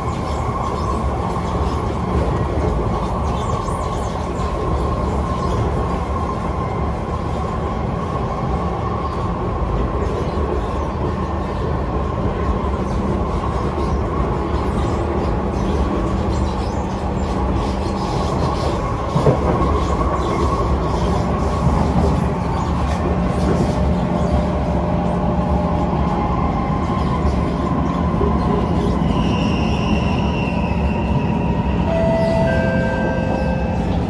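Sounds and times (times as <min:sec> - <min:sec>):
train hum and whine: 0:00.0 - 0:34.0
train wheels rumbling on rail: 0:00.0 - 0:34.0.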